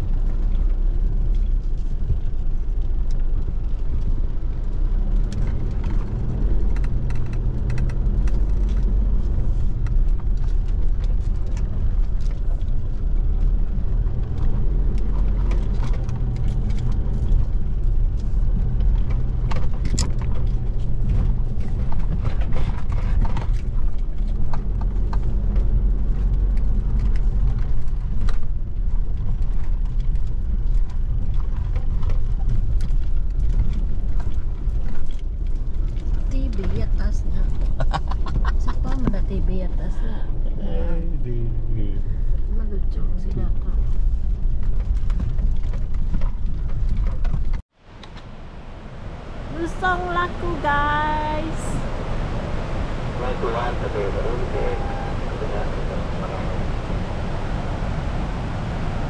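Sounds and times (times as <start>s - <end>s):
engine and road rumble: 0.0s - 59.0s.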